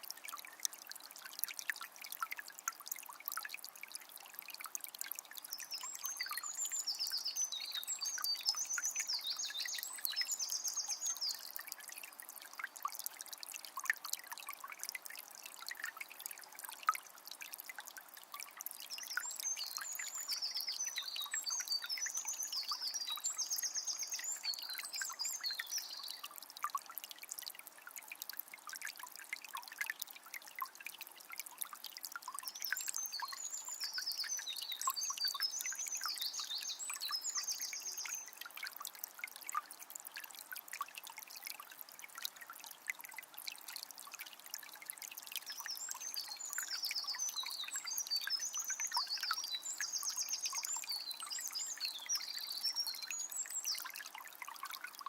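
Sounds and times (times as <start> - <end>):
spring water trickling: 0.0 - 55.0.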